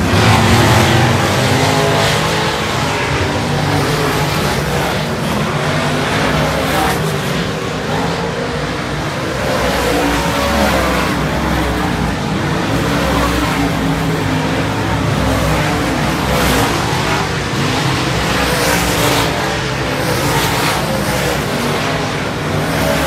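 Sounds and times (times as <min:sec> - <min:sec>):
race car engines running: 0:00.0 - 0:23.0.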